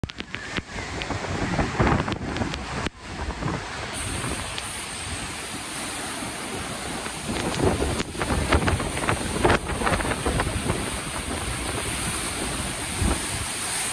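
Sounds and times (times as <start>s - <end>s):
waves crashing on rocks: 0.0s - 13.9s
wind buffeting microphone: 0.0s - 13.9s.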